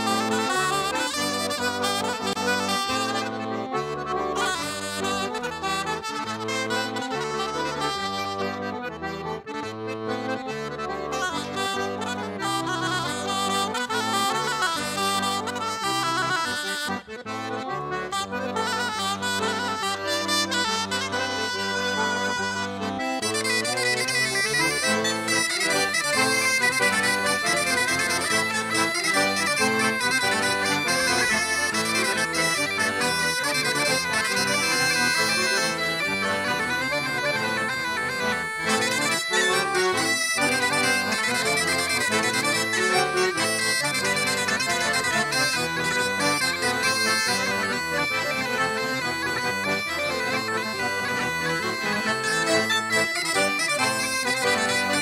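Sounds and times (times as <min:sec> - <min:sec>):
accordion: 0:00.0 - 0:55.0
bagpipes: 0:00.0 - 0:55.0.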